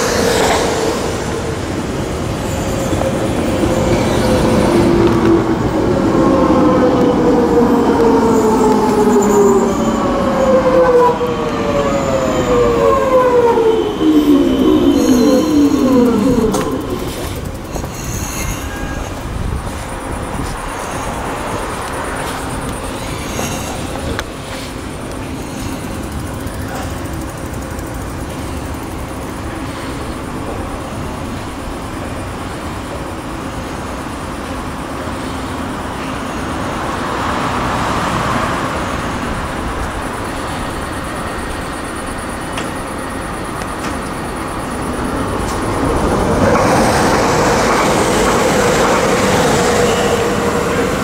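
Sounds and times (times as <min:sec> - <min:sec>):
metro train equipment humming: 0:00.0 - 0:51.0
passing train whine: 0:00.0 - 0:51.0.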